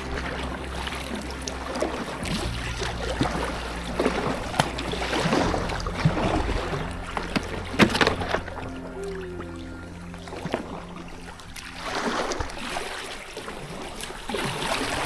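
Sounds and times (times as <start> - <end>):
paddle splashing in water: 0.0 - 15.0.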